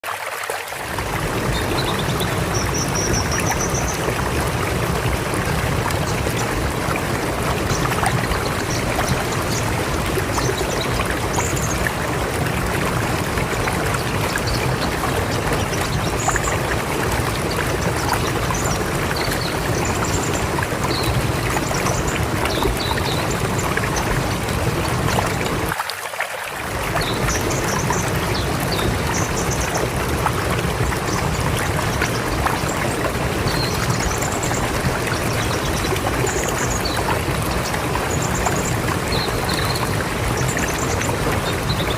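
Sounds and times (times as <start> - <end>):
river water rushing: 0.0 - 41.9.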